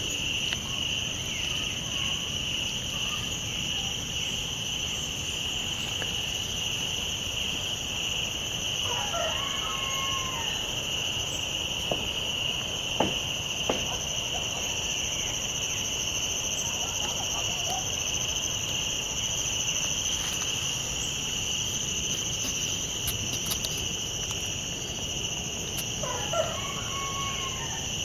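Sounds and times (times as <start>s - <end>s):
insects and frogs chorus: 0.0s - 28.0s.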